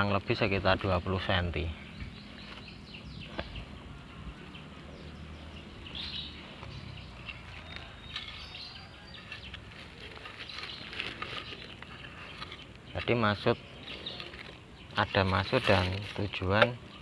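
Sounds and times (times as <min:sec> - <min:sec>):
hands rustling garden soil: 0:00.0 - 0:16.7
birds chirping: 0:00.0 - 0:17.0.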